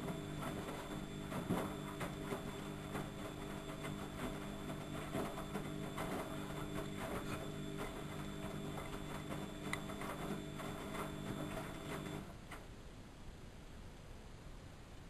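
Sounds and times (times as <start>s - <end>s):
washing machine motor hum: 0.0s - 12.5s.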